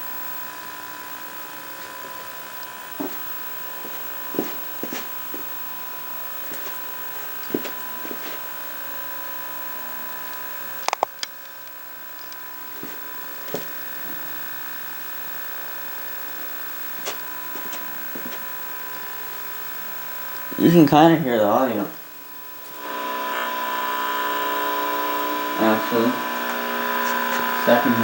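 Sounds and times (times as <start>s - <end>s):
electrical buzz from speaker: 0.0s - 28.0s.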